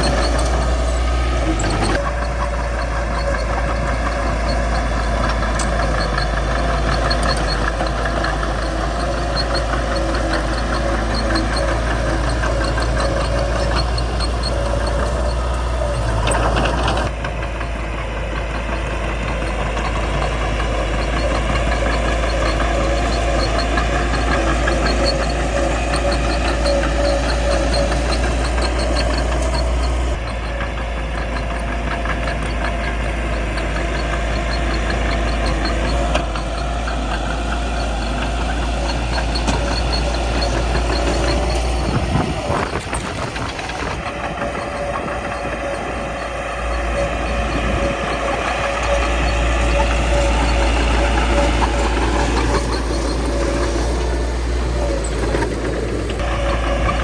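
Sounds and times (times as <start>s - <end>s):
fast even ticking: 0.0s - 17.1s, 18.6s - 57.0s
bulldozer diesel engine running: 0.0s - 57.0s.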